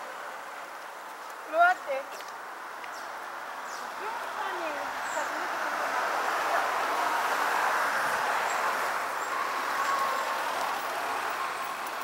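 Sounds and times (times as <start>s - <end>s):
street traffic hiss: 0.0s - 12.0s.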